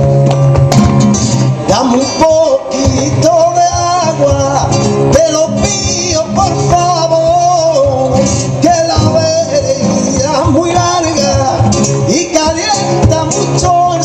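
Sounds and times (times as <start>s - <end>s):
acoustic guitars strumming chords: 0.0s - 14.0s.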